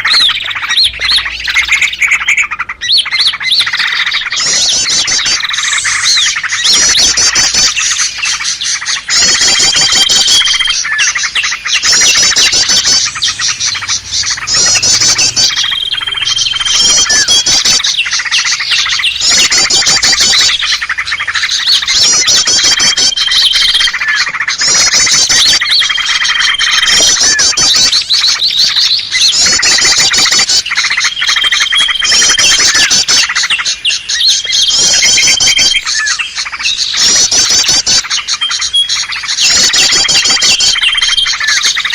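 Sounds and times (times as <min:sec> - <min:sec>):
songbirds chattering trills: 0:00.0 - 0:41.9.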